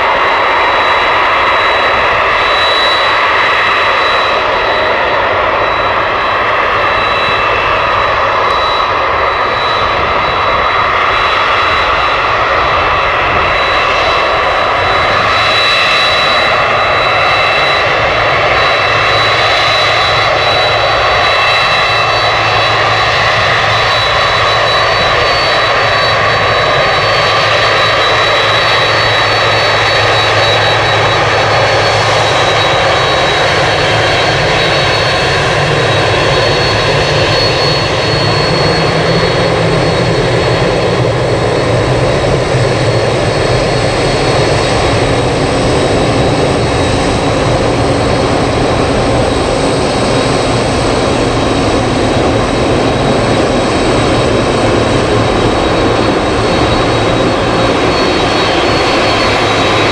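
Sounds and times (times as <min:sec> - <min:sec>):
jet engines running loud: 0:00.0 - 0:59.9.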